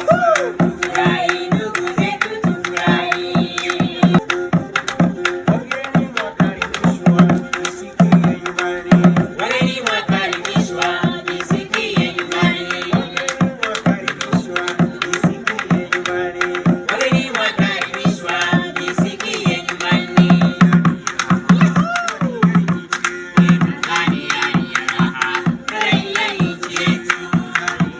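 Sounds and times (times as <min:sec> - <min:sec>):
fast steady drumming: 0:00.0 - 0:27.9
voices singing: 0:00.0 - 0:27.9.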